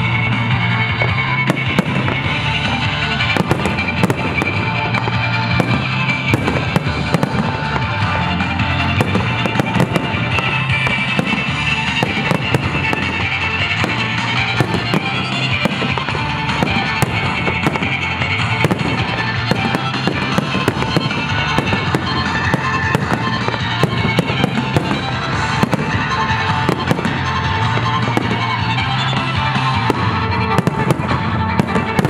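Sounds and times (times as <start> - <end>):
fireworks bangs and crackling: 0.0 - 32.0
music playing: 0.0 - 32.0.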